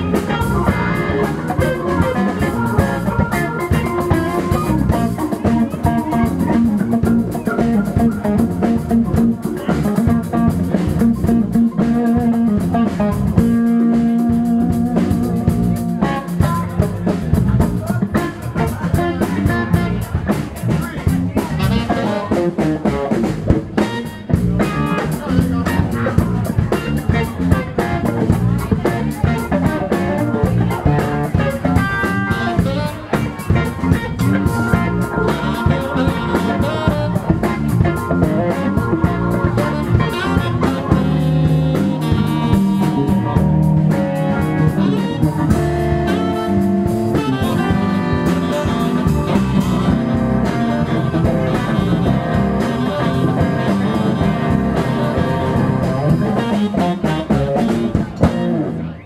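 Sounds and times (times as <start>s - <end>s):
drum kit beat: 0.0s - 59.0s
electric guitars: 0.0s - 59.0s
saxophone: 0.0s - 59.0s.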